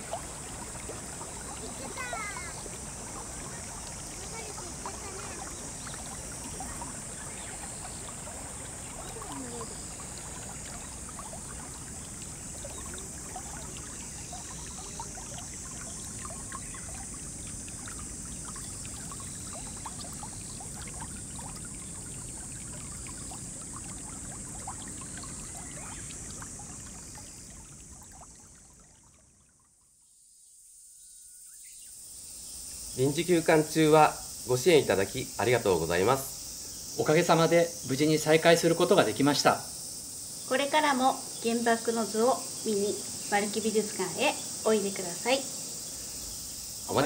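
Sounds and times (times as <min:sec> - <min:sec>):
shallow river flowing: 0:00.0 - 0:30.1, 0:31.5 - 0:47.0
high-pitched insect hiss: 0:00.0 - 0:47.0.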